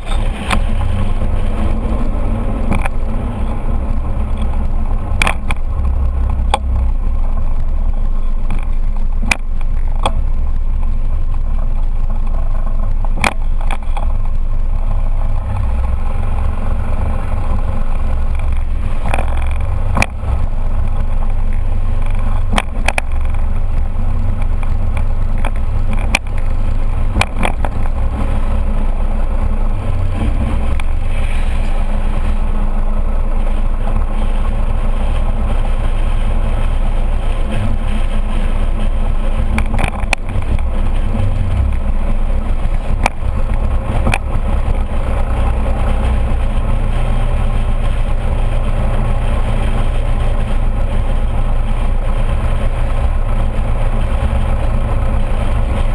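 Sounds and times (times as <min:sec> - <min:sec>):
scooter engine rumble: 0:00.0 - 0:55.9.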